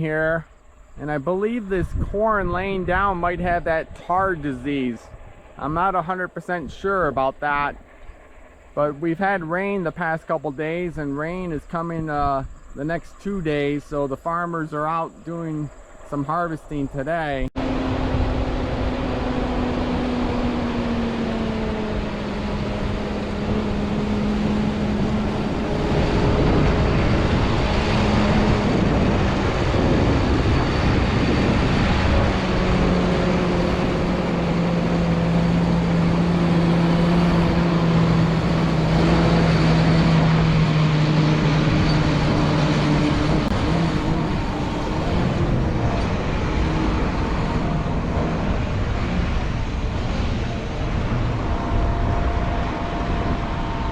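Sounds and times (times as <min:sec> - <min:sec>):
continuous mechanical rush: 0:00.0 - 0:53.9
harvester engine drone: 0:00.0 - 0:53.9.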